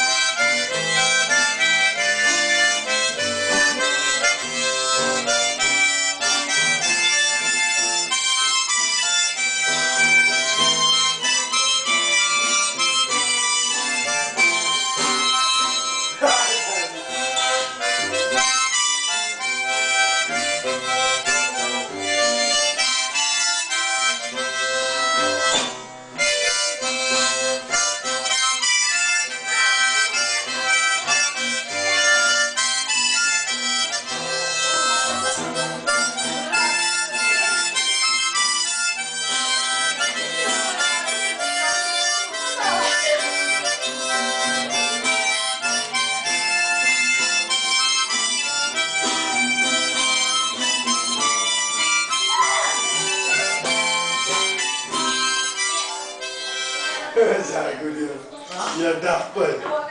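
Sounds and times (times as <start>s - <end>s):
harmonica melody: 0.0s - 59.9s.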